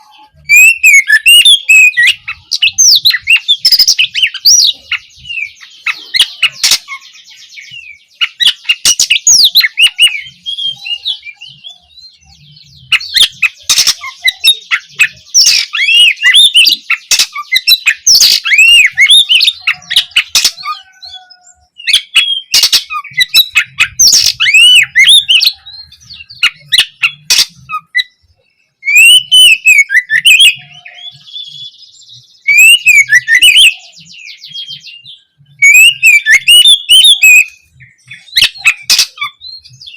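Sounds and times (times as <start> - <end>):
bird singing whistles and rattles: 0.0 - 28.2, 28.8 - 39.9.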